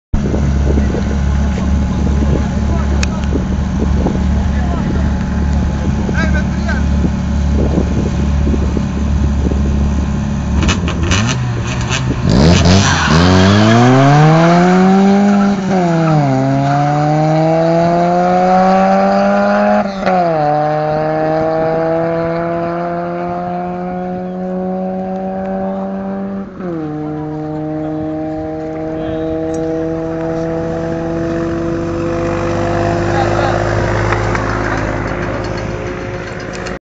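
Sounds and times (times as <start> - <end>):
car engines revving: 0.1 - 36.8.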